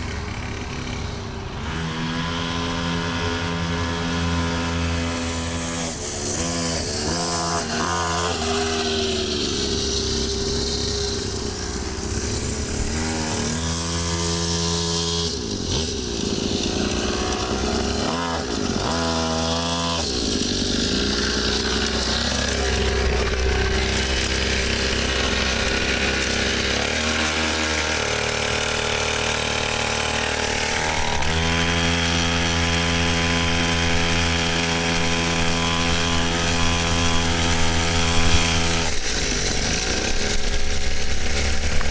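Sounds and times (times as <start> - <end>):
small two-stroke engine buzzing: 0.0 - 41.9.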